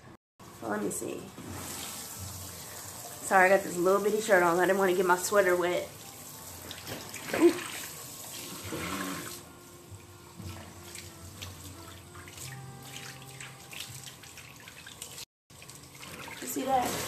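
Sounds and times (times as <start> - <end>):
water spraying onto hair: 0.5 - 15.3, 16.0 - 17.0.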